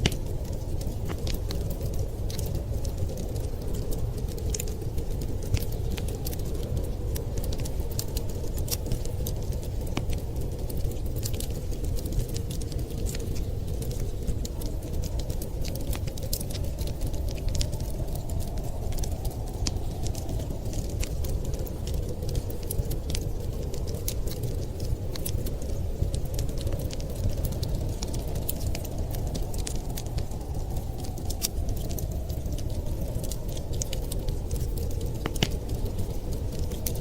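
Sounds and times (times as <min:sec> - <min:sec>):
low rumble of blizzard wind: 0:00.0 - 0:37.0
wood fire crackling and popping: 0:00.0 - 0:37.0.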